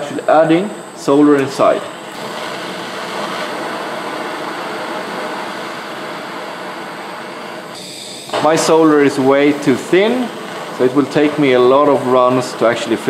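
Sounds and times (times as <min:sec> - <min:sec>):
propane torch hissing: 0:00.0 - 0:13.0.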